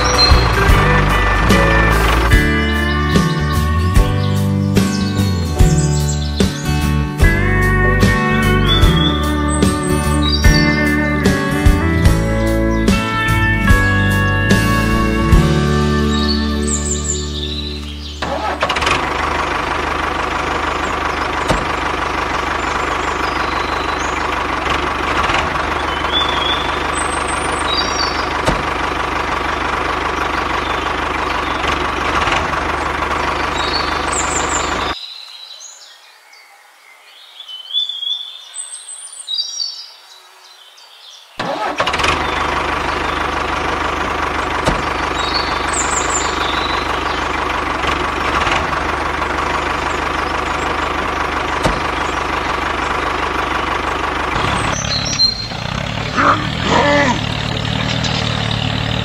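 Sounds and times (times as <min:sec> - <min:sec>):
tractor engine idling: 0:00.0 - 0:35.0, 0:41.4 - 0:59.0
birds chirping: 0:00.0 - 0:59.0.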